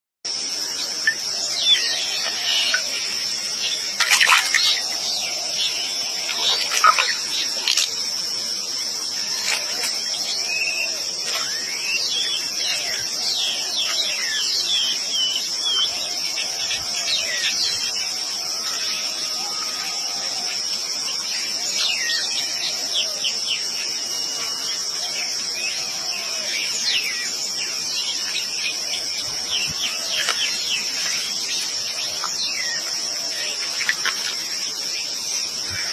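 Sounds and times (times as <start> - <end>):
insect trill: 0.3 - 35.9.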